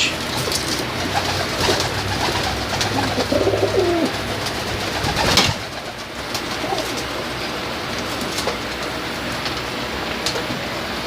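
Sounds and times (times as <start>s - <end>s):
pigeons cooing: 0.0s - 9.1s.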